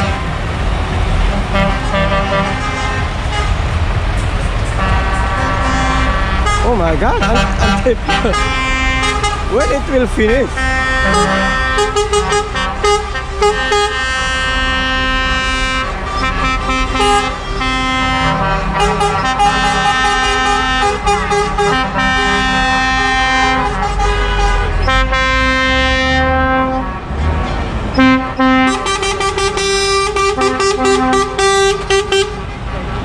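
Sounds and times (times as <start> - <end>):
truck air horn blasts: 0.0 - 0.4, 1.3 - 3.6, 4.8 - 9.9, 10.5 - 33.0
truck engines running: 0.0 - 33.0.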